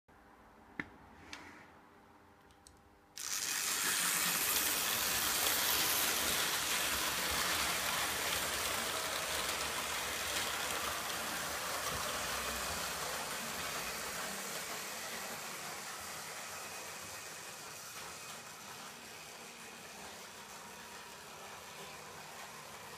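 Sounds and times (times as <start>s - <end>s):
model train whirring rattle: 3.2s - 22.9s.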